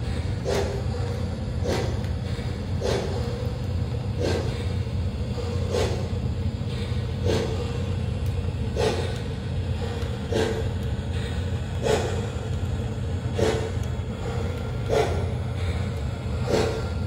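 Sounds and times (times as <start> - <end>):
model train rumbling: 0.0 - 17.0
train track clack: 0.0 - 17.0.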